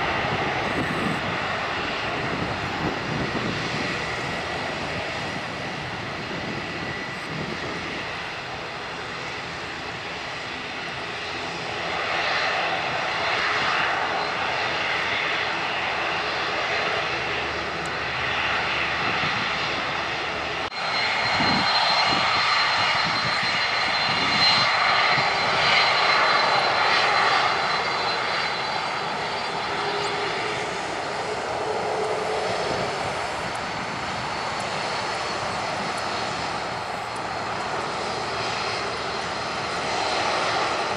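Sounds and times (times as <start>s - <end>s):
jet rumble with high whine: 0.0s - 40.9s
turboprop engines running: 0.0s - 40.9s.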